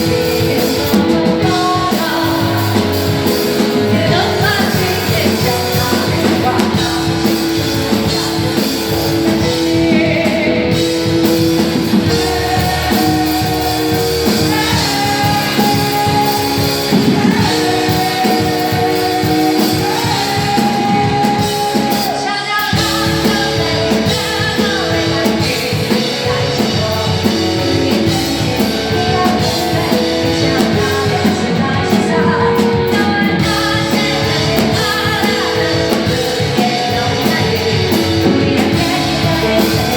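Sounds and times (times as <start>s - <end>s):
person singing: 0.0s - 39.9s
rock band playing live: 0.0s - 39.9s.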